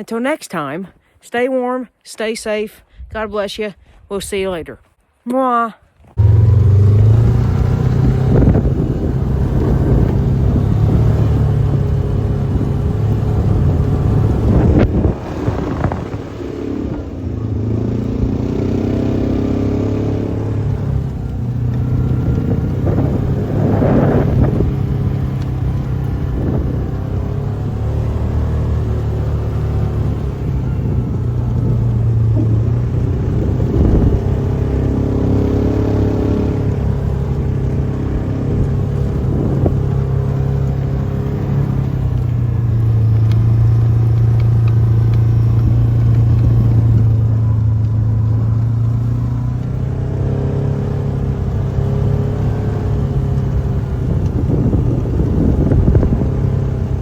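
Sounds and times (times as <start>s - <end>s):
tractor engine running: 6.1s - 57.0s.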